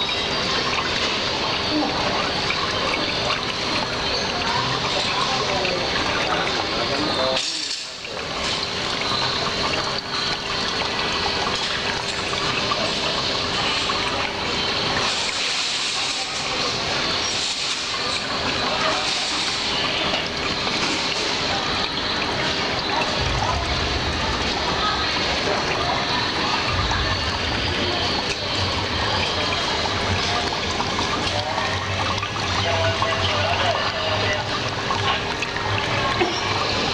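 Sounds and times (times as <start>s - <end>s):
fountain water splashing into basin: 0.0s - 36.9s.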